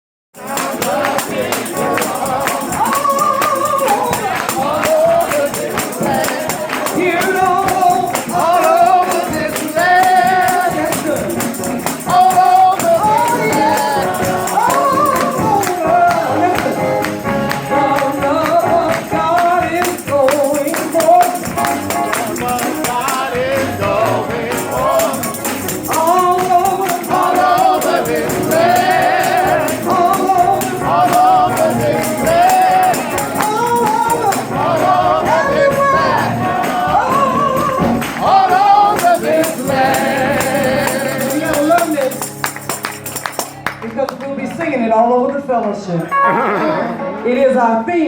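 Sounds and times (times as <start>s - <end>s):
tambourine shaking: 0.4s - 43.8s
worship leader singing: 0.4s - 44.4s
congregation singing: 0.4s - 44.8s.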